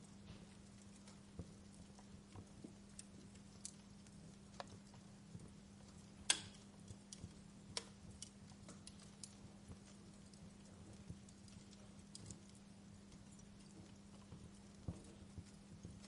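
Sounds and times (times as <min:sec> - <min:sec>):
faint low hum: 0:00.0 - 0:16.0
fire popping and snapping: 0:00.0 - 0:16.0
wood fire crackling: 0:00.0 - 0:16.0.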